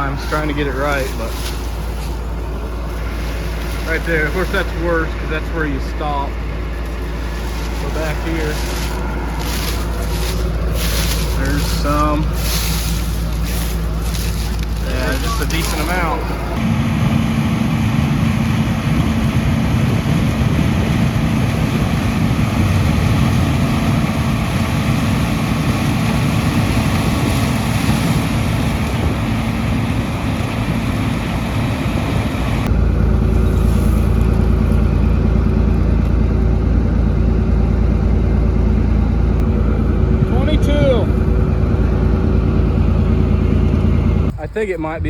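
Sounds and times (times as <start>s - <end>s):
combine harvester running: 0.0s - 45.0s.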